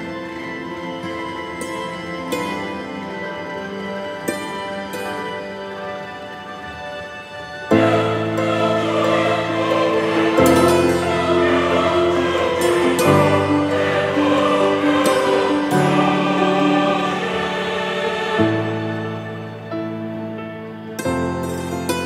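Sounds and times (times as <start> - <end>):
slow sustained chords: 0.0 - 21.9.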